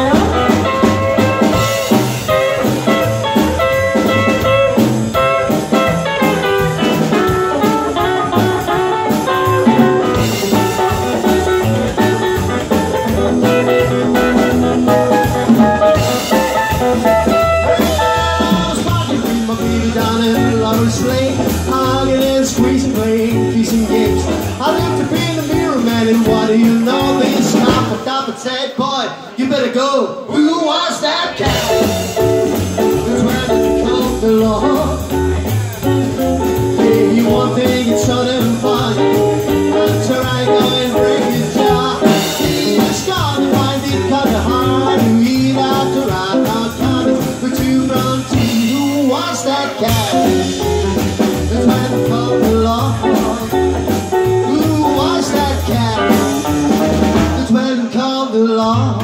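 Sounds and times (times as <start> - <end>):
rockabilly band playing live: 0.0 - 59.0.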